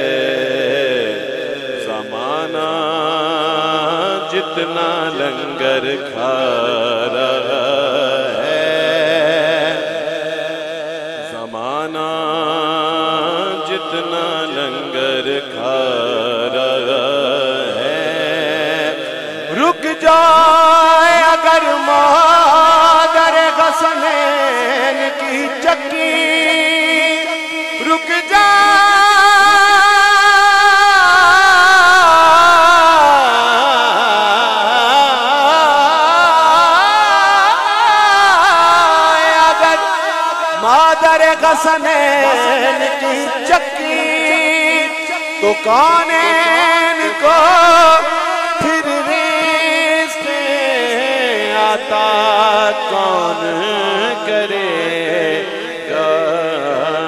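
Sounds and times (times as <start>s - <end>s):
man singing through microphone: 0.0s - 57.0s.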